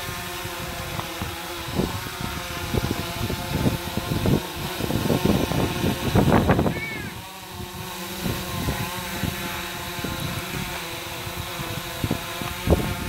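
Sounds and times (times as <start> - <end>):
drone propellers whining: 0.0 - 13.0
wind thumps on microphone: 0.0 - 13.0.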